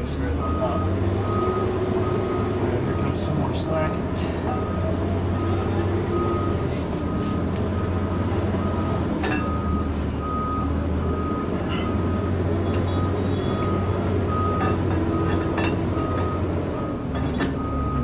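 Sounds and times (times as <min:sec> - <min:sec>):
idling engine drone: 0:00.0 - 0:18.0
vehicle backup alarm beeping: 0:00.2 - 0:18.0.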